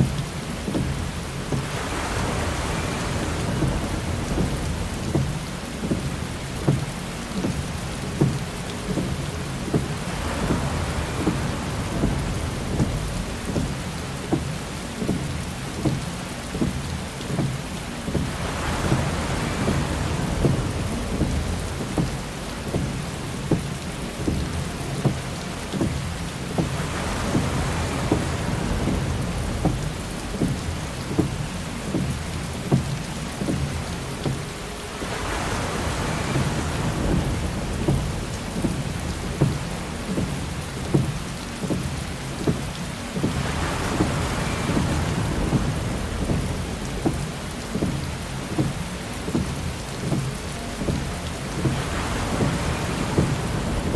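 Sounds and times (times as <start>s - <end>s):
heavy rain on car roof: 0.0s - 53.9s
windshield wiper whoosh: 0.0s - 53.9s.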